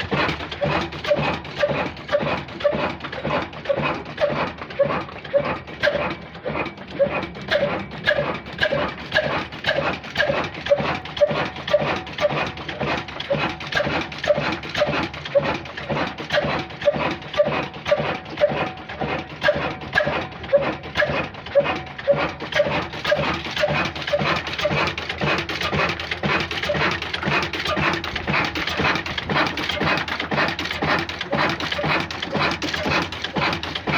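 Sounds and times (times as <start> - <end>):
diesel engine chugging: 0.0 - 33.9.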